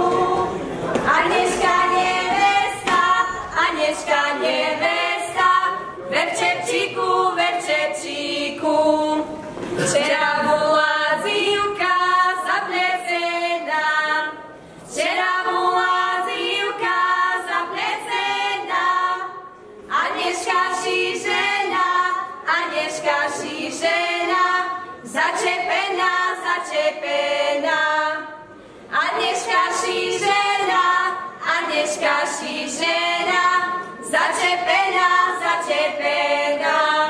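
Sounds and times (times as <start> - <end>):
women singing a cappella: 0.0 - 37.0.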